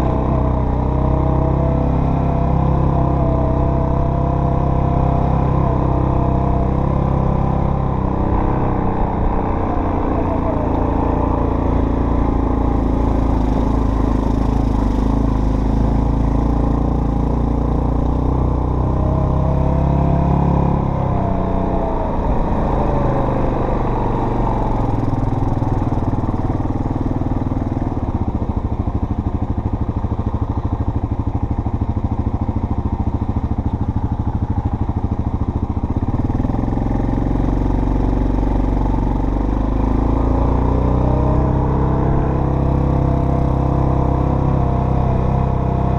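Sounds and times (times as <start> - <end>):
off-road vehicle engine running: 0.0 - 45.9.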